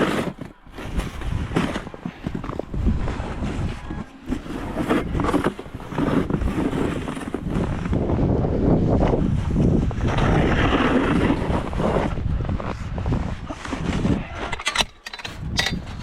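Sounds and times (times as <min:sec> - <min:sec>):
wind buffeting microphone: 0:00.8 - 0:16.0.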